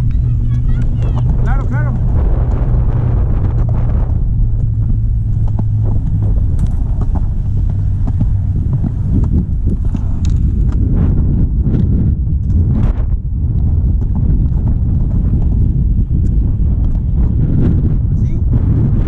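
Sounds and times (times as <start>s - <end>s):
skateboard wheels rolling on pavement: 0.0s - 19.0s.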